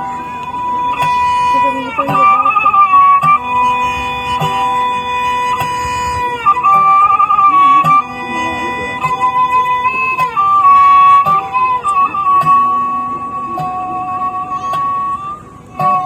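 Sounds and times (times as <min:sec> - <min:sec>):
high melody in long notes: 0:00.0 - 0:16.0
plucked string accompaniment: 0:00.0 - 0:16.0.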